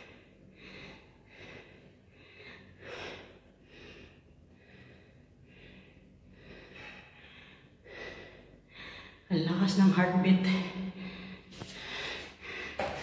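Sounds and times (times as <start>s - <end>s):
woman panting heavily: 0.0s - 9.3s, 10.5s - 13.0s.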